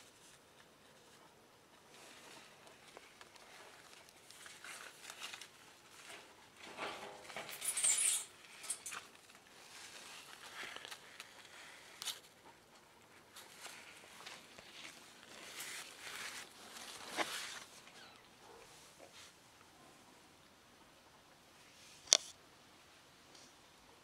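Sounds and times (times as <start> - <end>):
leaves rustling and scraping: 0.0 - 19.4.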